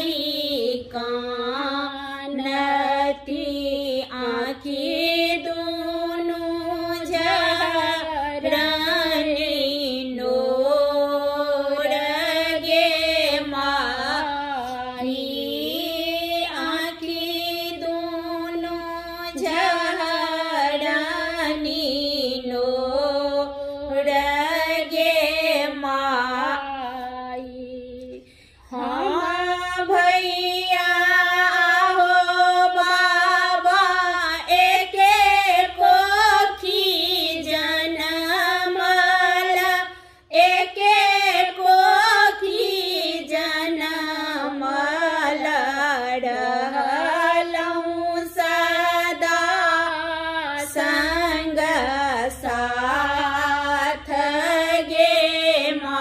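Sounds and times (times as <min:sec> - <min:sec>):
women singing unaccompanied: 0:00.0 - 0:56.0.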